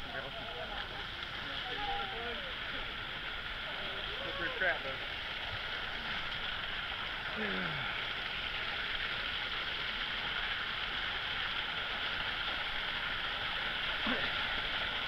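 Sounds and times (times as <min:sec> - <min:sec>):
creek water rushing over rocks: 0:00.0 - 0:15.0.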